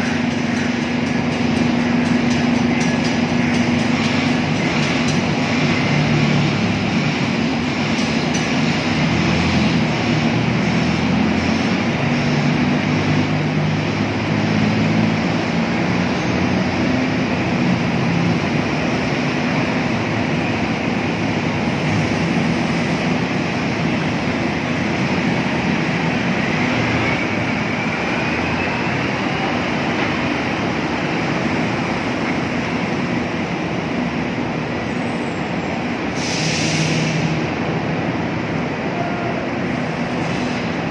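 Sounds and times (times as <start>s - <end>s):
diesel engines running: 0.0s - 40.9s
machinery noise: 0.0s - 40.9s.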